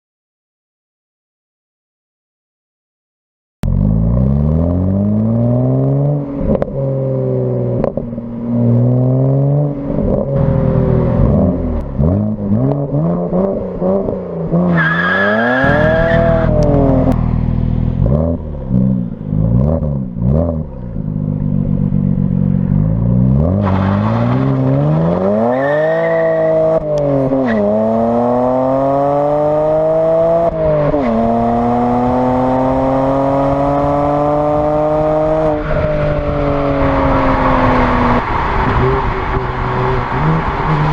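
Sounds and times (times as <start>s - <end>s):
car engine revving and accelerating: 3.7s - 40.9s.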